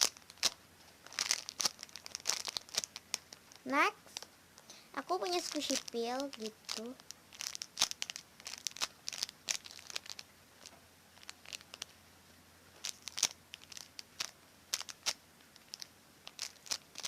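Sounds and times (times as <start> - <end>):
plastic wrapping crinkling: 0.0 - 4.3, 5.0 - 12.0, 12.8 - 17.0.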